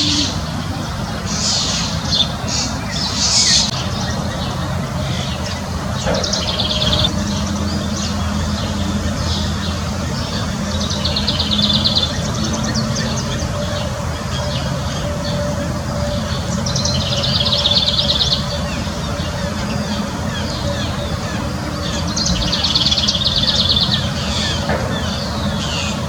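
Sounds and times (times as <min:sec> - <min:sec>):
low mechanical hum: 0:00.0 - 0:26.0
songbird trilling: 0:01.2 - 0:26.0.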